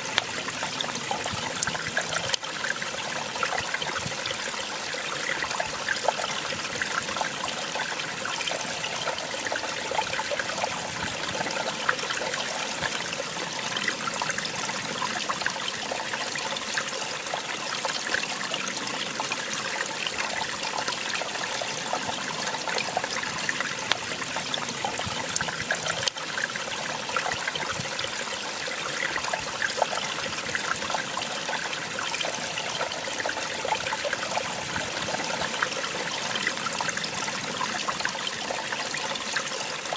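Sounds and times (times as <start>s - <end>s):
small waterfall splashing over rocks: 0.0s - 39.9s.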